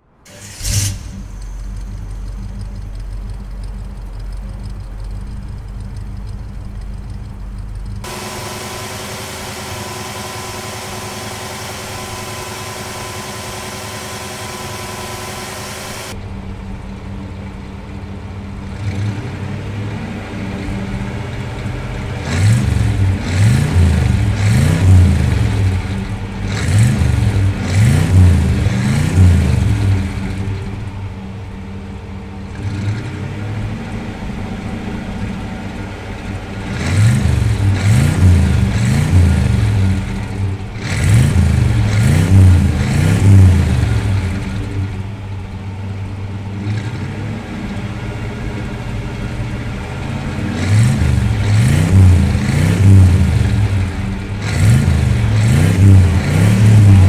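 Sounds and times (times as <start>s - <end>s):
engine revving and idling: 0.0s - 57.0s.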